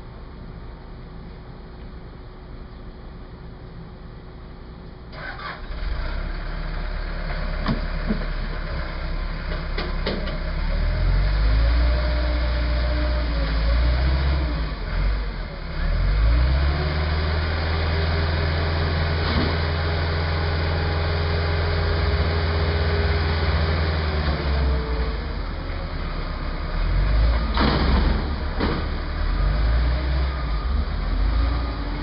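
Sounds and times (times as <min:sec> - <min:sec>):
forklift engine humming: 0:00.0 - 0:32.0.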